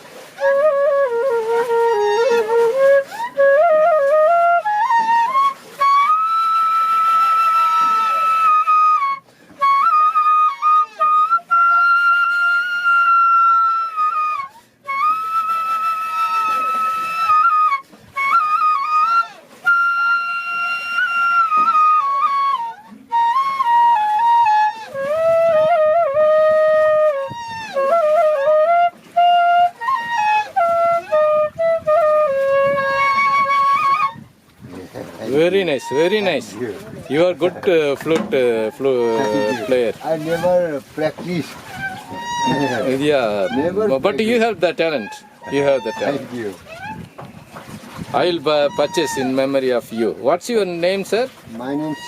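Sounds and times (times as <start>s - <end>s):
solo flute melody: 0.0s - 52.0s.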